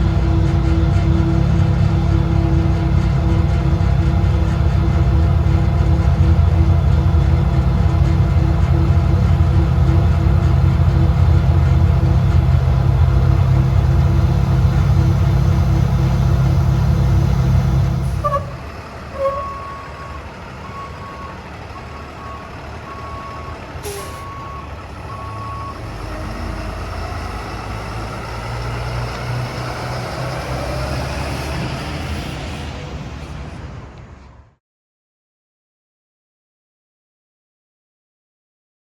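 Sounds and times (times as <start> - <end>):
diesel engine running: 0.0 - 34.2
low engine rumble: 0.0 - 34.5.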